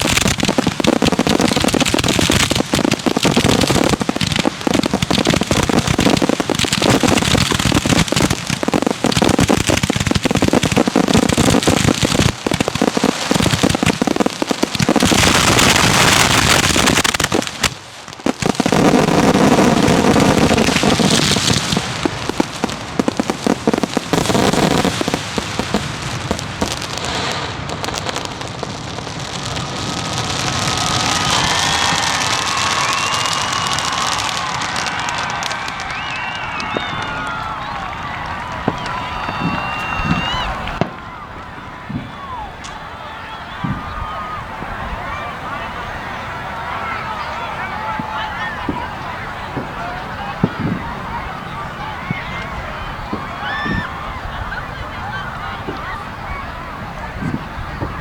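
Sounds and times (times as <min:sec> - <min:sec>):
fireworks firing and bursting: 0:00.0 - 0:58.0.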